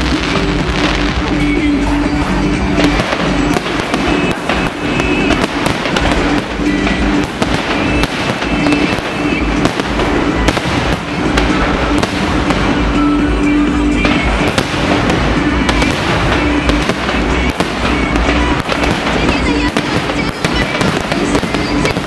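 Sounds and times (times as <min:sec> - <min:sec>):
fireworks bursting bangs: 0:00.0 - 0:22.0
fireworks crackling: 0:00.0 - 0:22.0
music playing: 0:00.0 - 0:22.0.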